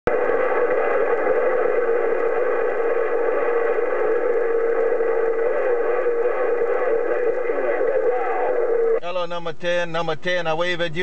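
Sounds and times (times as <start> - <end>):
radio tone with hiss: 0.1 - 11.0.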